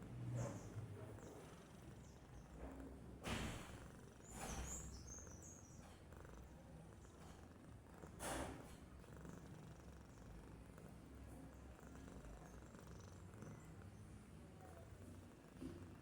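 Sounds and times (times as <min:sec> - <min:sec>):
cat purring: 0:00.4 - 0:16.0.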